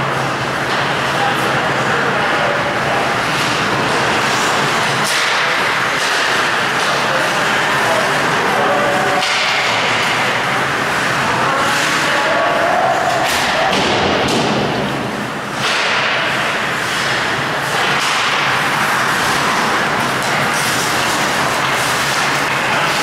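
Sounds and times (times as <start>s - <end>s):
skates rushing on ice: 3.1s - 23.0s
hockey sticks slapping puck: 3.3s - 23.0s.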